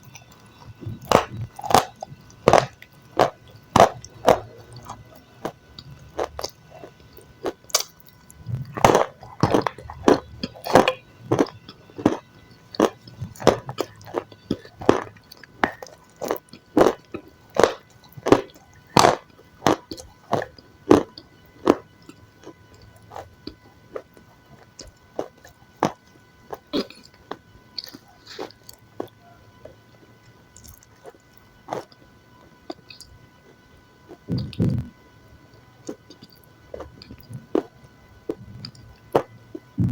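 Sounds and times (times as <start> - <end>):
crunchy food bites and chews: 0.0 - 39.9.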